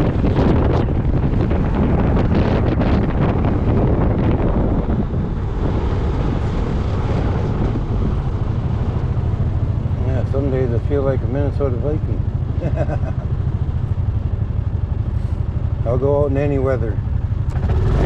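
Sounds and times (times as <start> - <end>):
road noise: 0.0 - 18.0
scooter engine: 0.0 - 18.0
wind buffeting microphone: 0.0 - 18.0.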